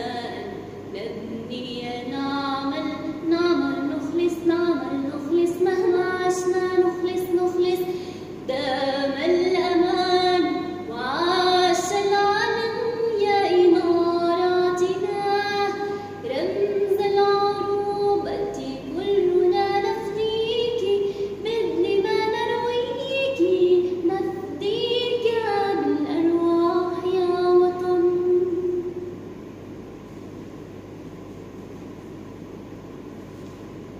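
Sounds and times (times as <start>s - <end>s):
woman singing slow melody: 0.0s - 29.1s.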